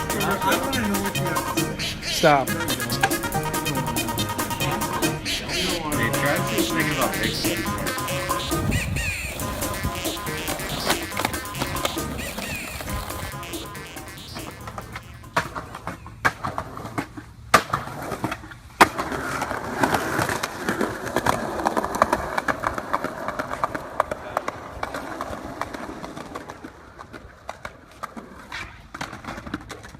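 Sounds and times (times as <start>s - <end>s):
skateboard clacking: 0.0s - 29.9s
skateboard wheels rolling on pavement: 0.0s - 29.9s.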